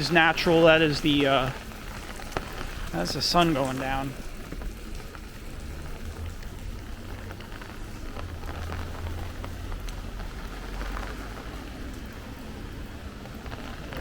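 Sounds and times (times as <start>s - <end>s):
rain pattering and dripping: 0.0s - 14.0s.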